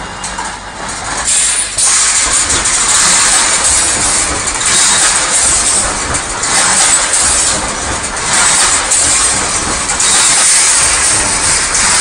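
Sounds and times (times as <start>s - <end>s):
low machine rumble: 0.0s - 12.0s
machinery hissing: 1.0s - 12.0s.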